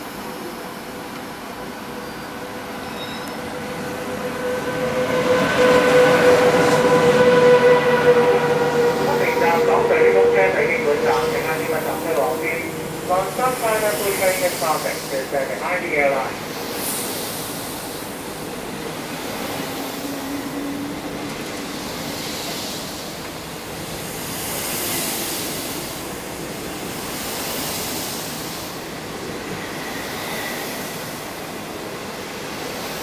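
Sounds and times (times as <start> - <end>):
train wheels rushing on rails: 0.0 - 33.0.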